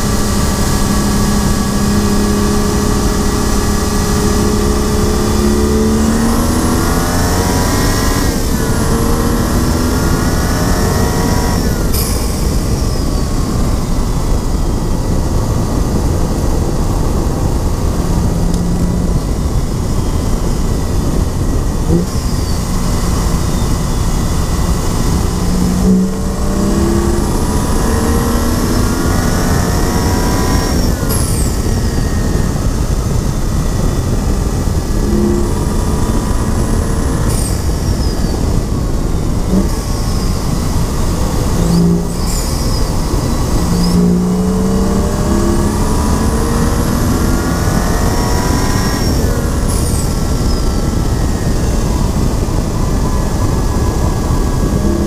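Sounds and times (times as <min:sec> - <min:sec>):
car engine revving at full throttle: 0:00.0 - 0:55.0
wind and road noise: 0:00.0 - 0:55.0.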